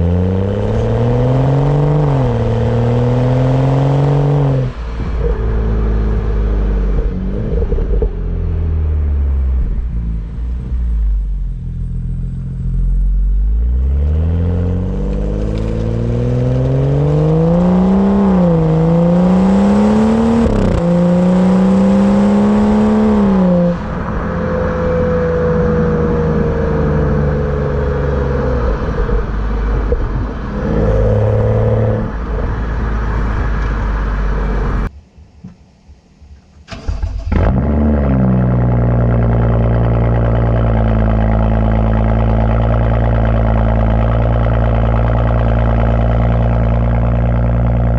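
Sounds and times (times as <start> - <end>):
car exhaust while driving: 0.0 - 34.9, 36.9 - 47.9.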